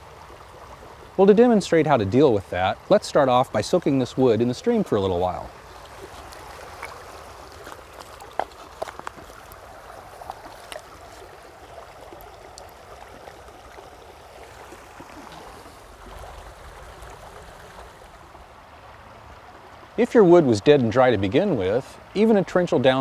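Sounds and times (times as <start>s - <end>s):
stream trickling: 0.0s - 23.0s.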